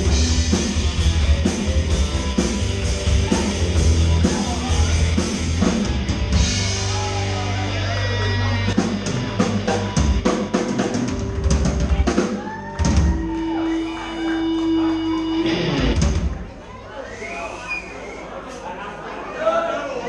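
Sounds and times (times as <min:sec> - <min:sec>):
drum kit: 0:00.0 - 0:16.6
electric guitars: 0:00.0 - 0:16.6.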